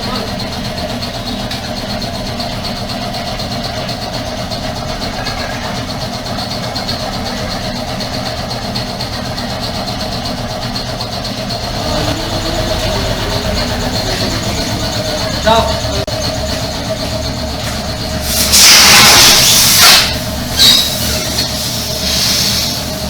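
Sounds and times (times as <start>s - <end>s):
air compressor humming: 0.0s - 23.0s.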